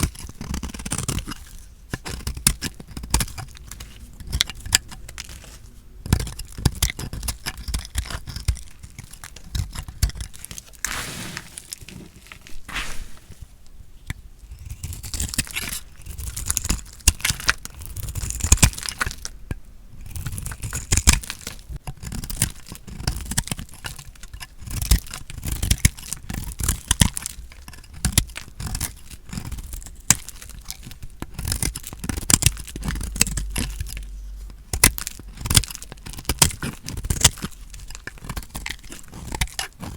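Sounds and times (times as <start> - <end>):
blade cutting soap: 0.0 - 19.4, 20.0 - 39.9.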